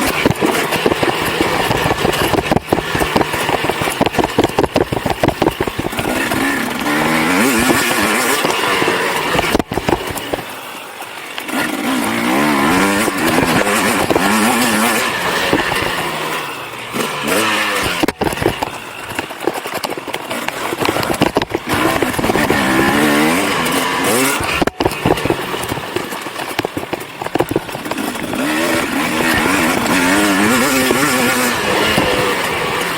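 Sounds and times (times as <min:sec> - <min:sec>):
motocross engine revving: 0:00.0 - 0:32.9.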